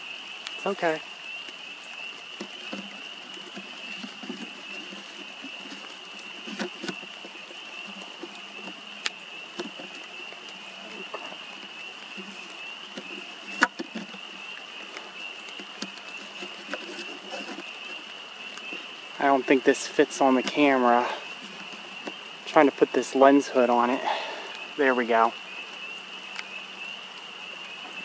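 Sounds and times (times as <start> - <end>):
frogs calling in chorus: 0.0 - 28.0.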